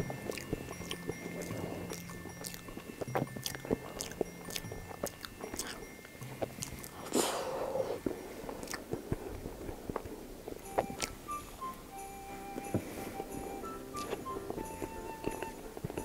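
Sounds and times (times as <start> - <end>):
moist chewing: 0.0 - 16.0
soft background music: 0.0 - 16.0.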